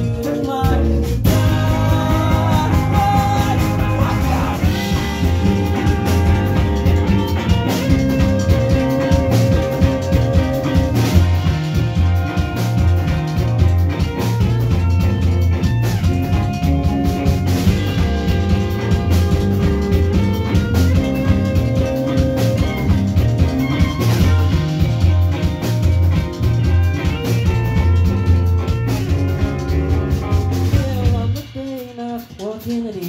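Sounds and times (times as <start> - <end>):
pulsing bass: 0.0 - 31.4
rock band playing live: 0.0 - 33.0.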